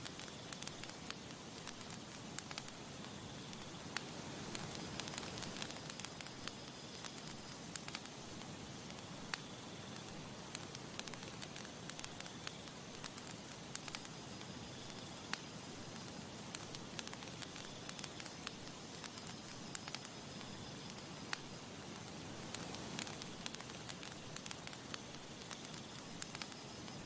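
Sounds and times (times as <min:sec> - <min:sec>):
campfire crackling: 0:00.0 - 0:27.0.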